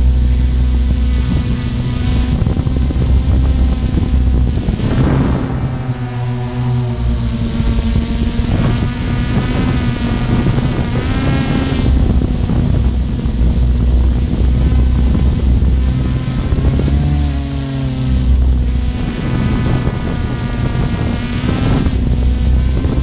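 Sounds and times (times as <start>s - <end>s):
engine running loudly: 0.0s - 23.0s.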